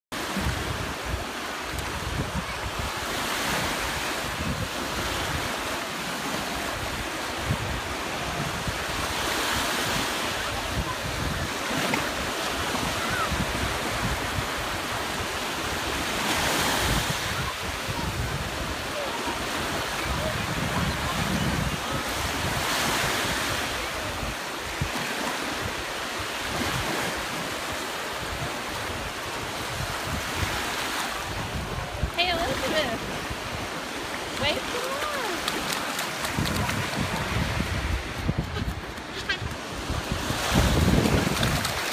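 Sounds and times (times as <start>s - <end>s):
surf washing on sand: 0.2s - 41.9s
wind buffeting microphone: 0.3s - 5.7s, 6.6s - 27.5s, 28.2s - 41.9s.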